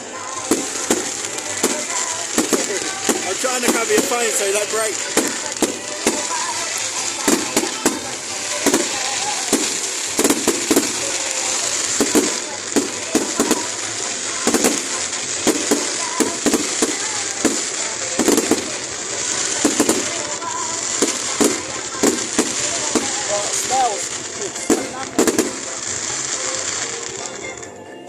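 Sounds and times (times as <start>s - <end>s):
fireworks banging: 0.0s - 27.9s
fireworks crackling: 0.0s - 28.0s.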